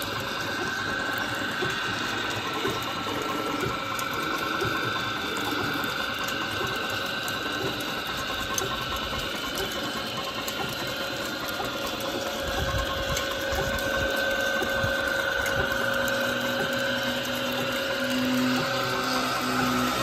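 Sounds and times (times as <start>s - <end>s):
agitator churning soapy water: 0.0s - 20.0s
pulleys and belt clattering: 0.0s - 20.0s
steady high whine: 0.0s - 20.0s.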